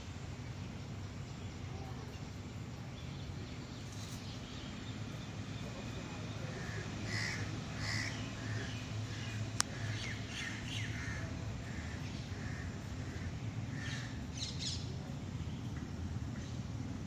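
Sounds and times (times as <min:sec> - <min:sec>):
birds calling: 0:00.0 - 0:16.7.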